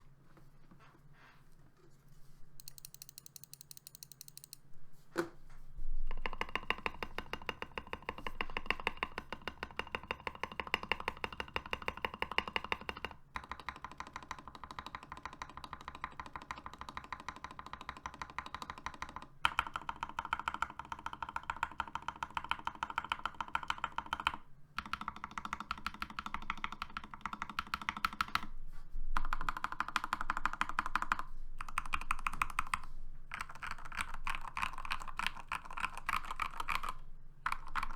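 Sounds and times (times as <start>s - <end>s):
fast typing on mechanical keyboard: 2.6s - 4.6s, 6.1s - 28.5s, 29.2s - 37.9s.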